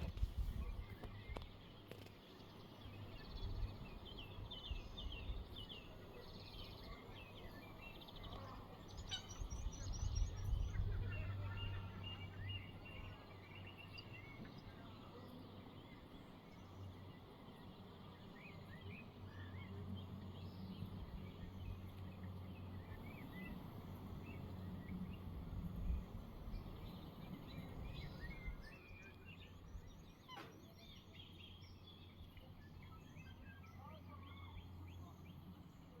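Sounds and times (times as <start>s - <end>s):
faint bird chirps: 0.4s - 36.0s.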